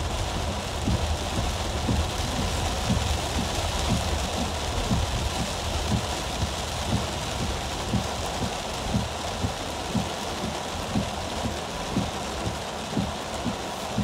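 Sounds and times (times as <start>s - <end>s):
heavy rain drumming on a car roof: 0.0s - 14.0s
windshield wipers thumping: 0.1s - 14.0s.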